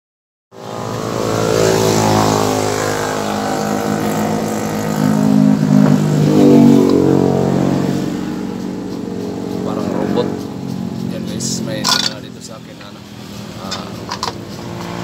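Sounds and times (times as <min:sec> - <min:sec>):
motorcycle engine passing: 0:00.6 - 0:15.0.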